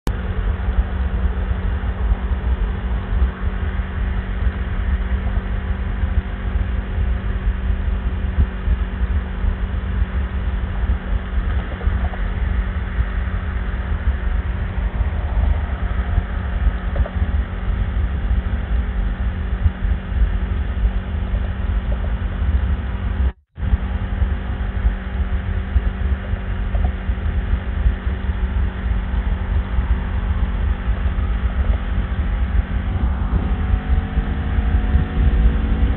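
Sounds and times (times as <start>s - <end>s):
motorcycle engine droning: 0.0s - 35.9s
wind and road rumble: 0.0s - 35.9s.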